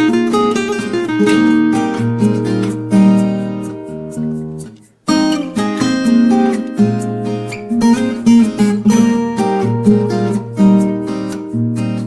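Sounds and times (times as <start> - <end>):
acoustic guitar melody: 0.0 - 12.0.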